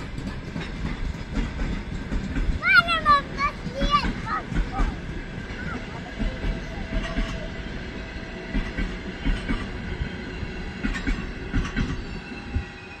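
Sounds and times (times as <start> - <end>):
train rolling rumble: 0.0 - 13.0
train wheels clicking over joints: 0.0 - 13.0.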